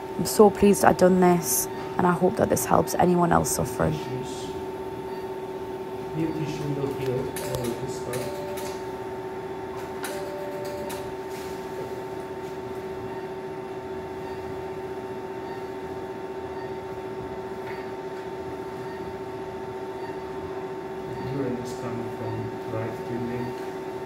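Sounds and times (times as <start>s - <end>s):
two-tone machine hum: 0.0s - 24.0s.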